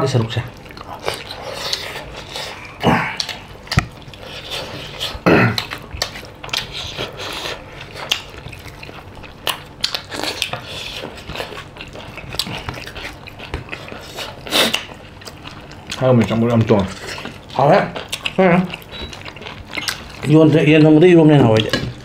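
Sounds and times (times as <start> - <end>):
chewing: 0.3 - 22.0.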